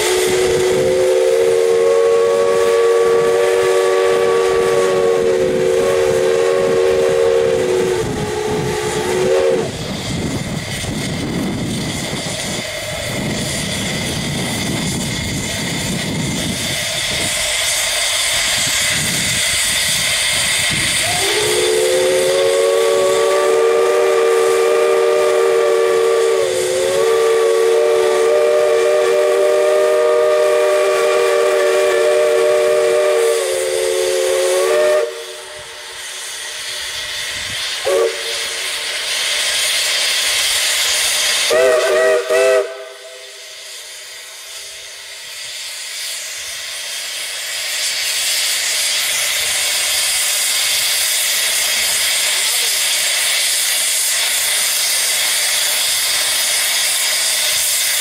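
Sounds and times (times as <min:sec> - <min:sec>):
steam whistle blasts: 0:00.0 - 0:10.1, 0:13.3 - 0:58.0
steam hissing and rumbling: 0:00.0 - 0:58.0.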